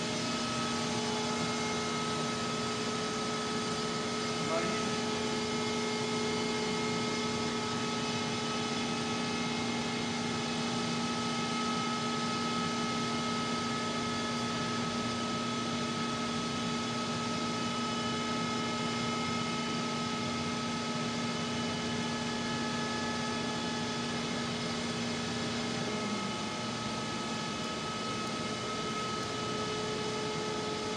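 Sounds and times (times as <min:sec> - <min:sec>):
electrical hum of switchgear: 0:00.0 - 0:30.9.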